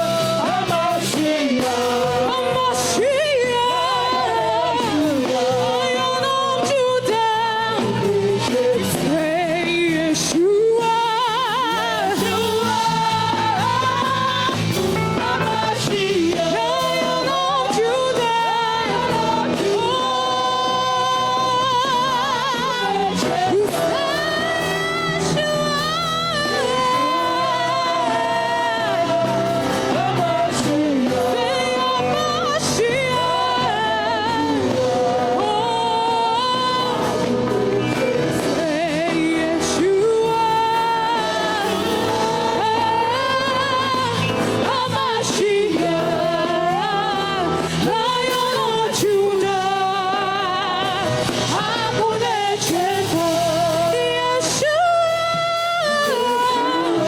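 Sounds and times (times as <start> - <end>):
band accompaniment: 0.0 - 57.0
person singing worship melody: 0.0 - 57.0.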